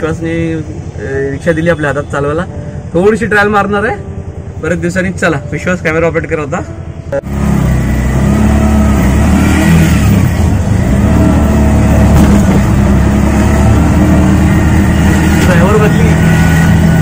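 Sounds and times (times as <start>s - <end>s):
auto-rickshaw engine running: 0.0s - 17.0s.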